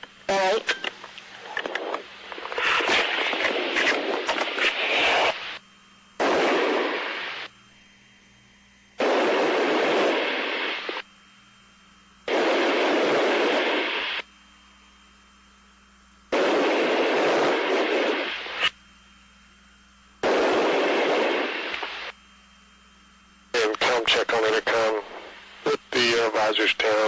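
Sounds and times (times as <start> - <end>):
bursts of static noise: 0.0 - 27.0
faint steady hum: 0.0 - 27.0.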